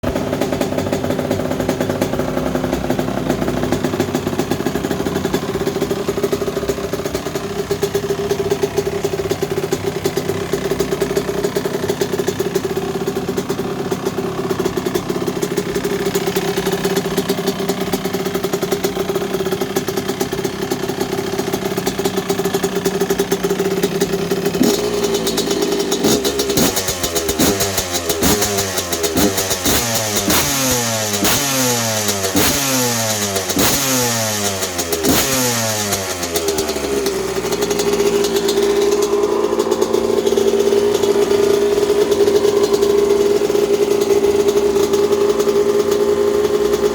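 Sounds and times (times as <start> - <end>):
two-stroke engine revving: 0.0 - 46.9.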